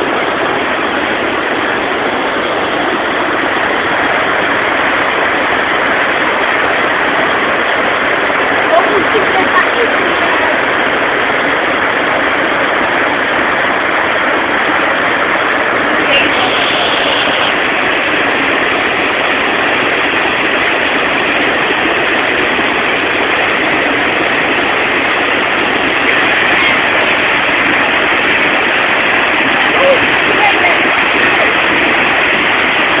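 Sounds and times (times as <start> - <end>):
river water rushing over weir: 0.0 - 33.0
water splashing hiss: 0.0 - 33.0.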